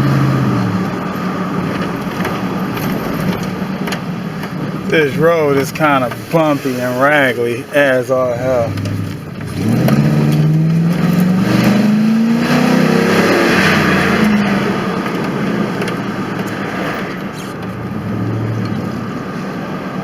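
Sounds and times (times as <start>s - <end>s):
truck engine accelerating: 0.0s - 20.0s
wind and road noise: 0.0s - 20.0s.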